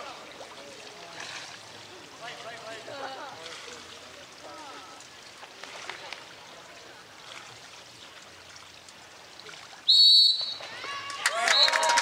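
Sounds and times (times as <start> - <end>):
water splashing in pool: 0.0 - 12.0.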